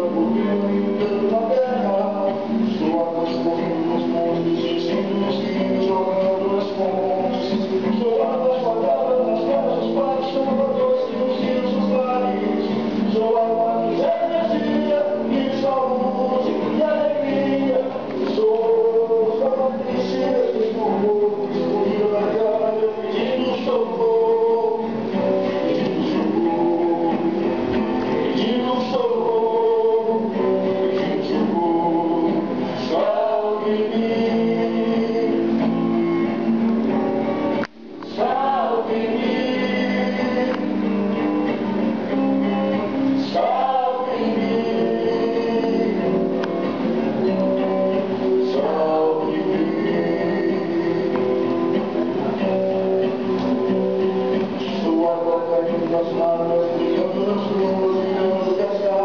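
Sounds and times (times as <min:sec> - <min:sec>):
person singing: 0:00.0 - 0:36.4, 0:38.0 - 0:59.0
music with sung vocals: 0:00.0 - 0:59.0
strummed acoustic guitar: 0:00.0 - 0:59.0.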